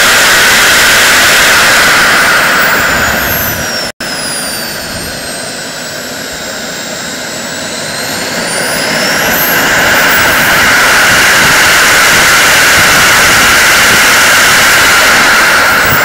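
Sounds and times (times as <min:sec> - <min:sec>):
model jet turbine whining: 0:00.0 - 0:16.0.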